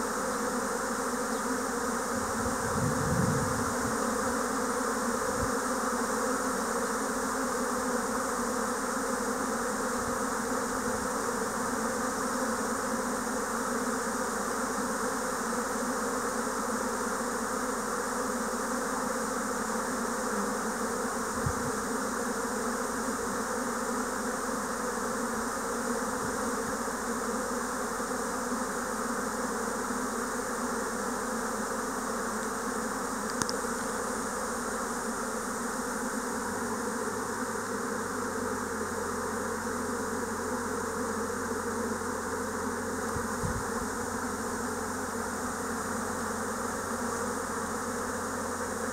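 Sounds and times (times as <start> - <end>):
swarm of bees buzzing: 0.0 - 48.9.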